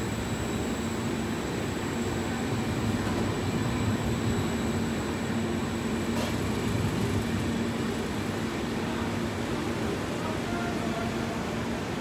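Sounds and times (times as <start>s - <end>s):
train hum: 0.0s - 12.0s.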